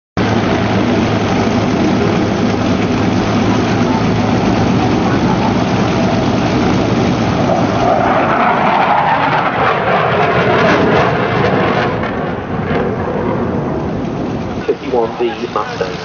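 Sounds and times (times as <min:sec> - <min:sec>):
aircraft flying past: 0:00.2 - 0:16.0.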